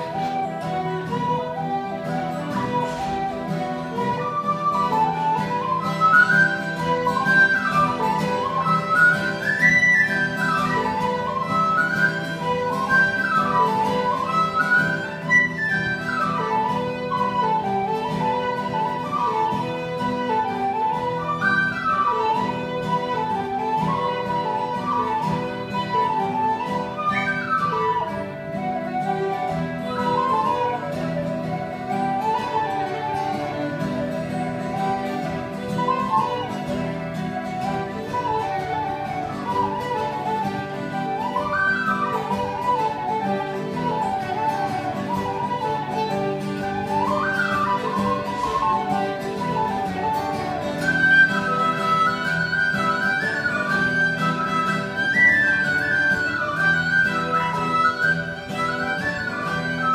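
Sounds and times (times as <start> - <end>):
acoustic guitar: 0.0 - 59.9
fiddle: 0.0 - 59.9
tin whistle melody: 0.0 - 59.9.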